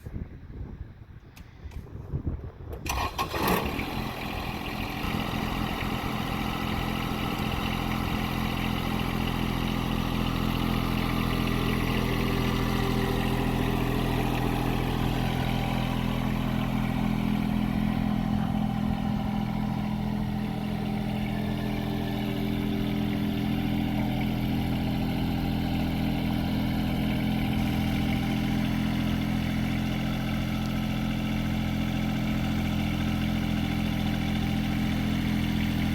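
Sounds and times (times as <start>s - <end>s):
tractor diesel engine starting: 1.6s - 35.9s.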